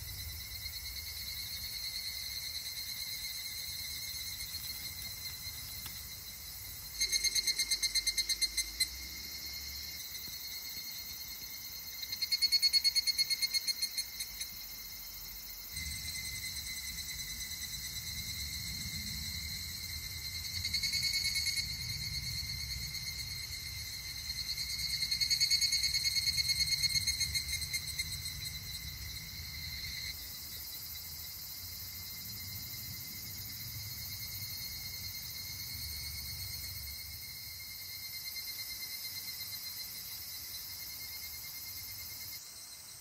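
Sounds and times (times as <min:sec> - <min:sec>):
crickets and insects trilling: 0:00.0 - 0:43.0.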